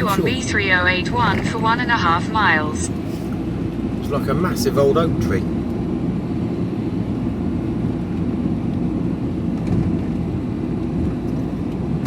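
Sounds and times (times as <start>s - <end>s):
tyres on the road: 0.0s - 12.0s
van engine rumble: 0.0s - 12.0s.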